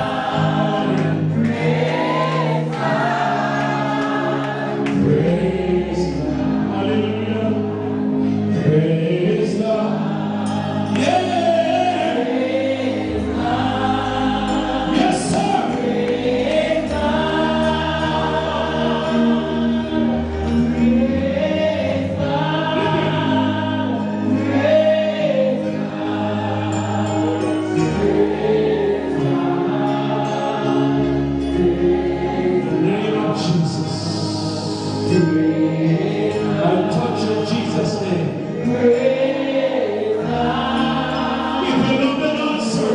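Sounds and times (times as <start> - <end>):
congregation singing a gospel song: 0.0 - 42.9.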